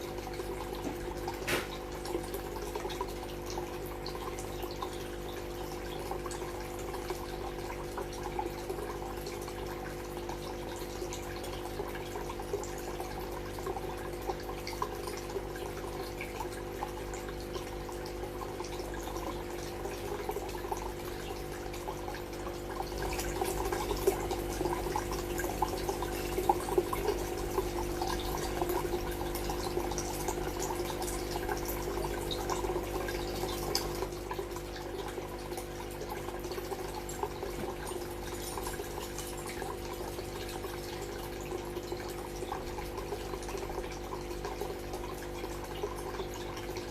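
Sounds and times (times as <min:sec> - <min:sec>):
aquarium water trickling and splashing: 0:00.0 - 0:46.9.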